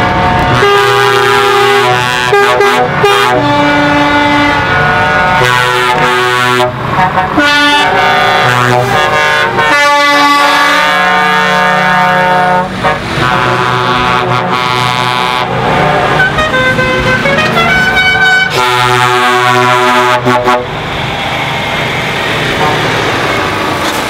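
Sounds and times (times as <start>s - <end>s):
truck air horns blasting: 0.0s - 20.8s
trucks passing: 0.0s - 24.0s.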